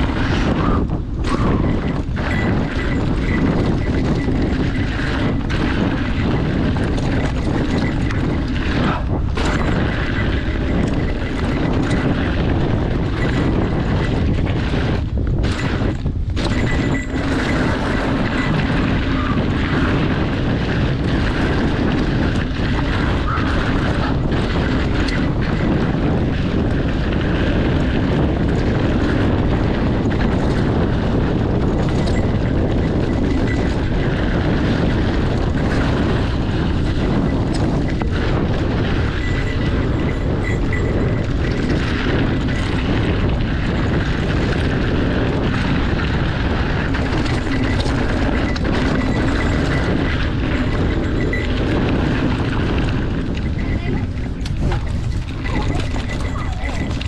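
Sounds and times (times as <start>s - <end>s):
bike tyres on dirt trail: 0.0s - 57.0s
wind rumble on microphone: 0.0s - 57.0s.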